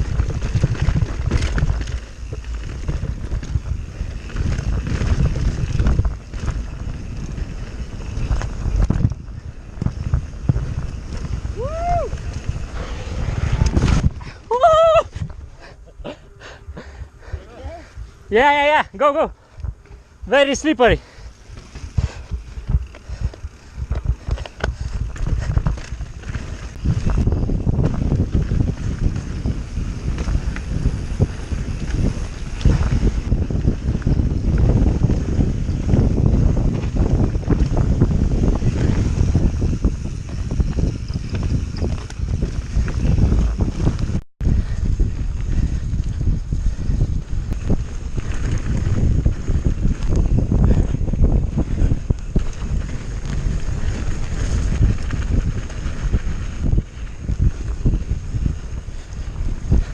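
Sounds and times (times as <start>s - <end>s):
bike knocks and rattles: 0.0s - 14.4s, 21.4s - 59.9s
tyres rumbling on rough ground: 0.0s - 15.8s, 16.9s - 59.9s
wind buffeting microphone: 0.0s - 59.9s.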